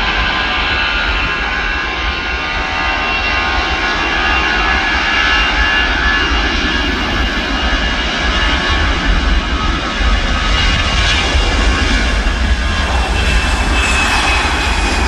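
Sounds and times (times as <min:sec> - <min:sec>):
jet engines at takeoff thrust: 0:00.0 - 0:15.0.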